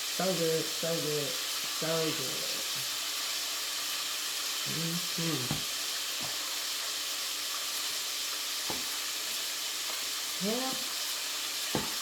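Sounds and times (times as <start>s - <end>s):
food frying in hot grease: 0.0s - 12.0s.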